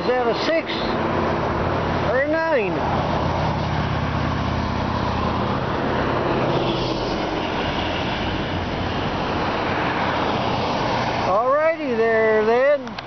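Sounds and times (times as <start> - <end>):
road traffic tyre noise: 0.0 - 13.0
low engine hum: 0.7 - 11.3.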